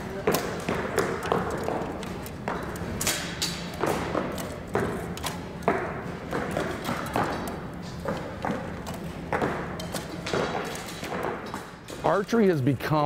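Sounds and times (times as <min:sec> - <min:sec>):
arrows striking foam targets: 0:00.2 - 0:12.1.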